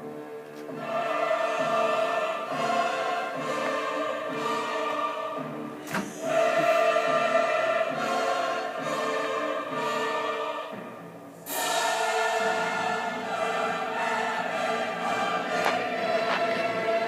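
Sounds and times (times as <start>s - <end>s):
choir singing with orchestra: 0.0s - 17.0s.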